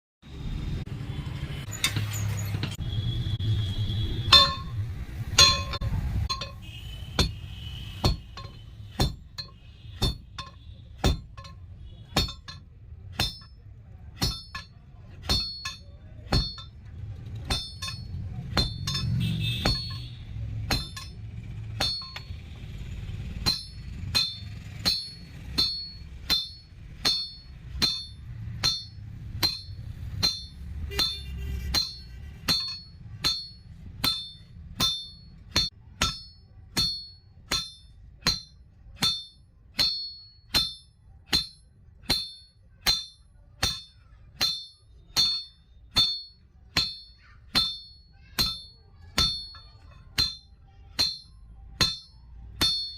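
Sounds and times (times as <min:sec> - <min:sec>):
hammer ringing on anvil: 0:03.0 - 0:52.9.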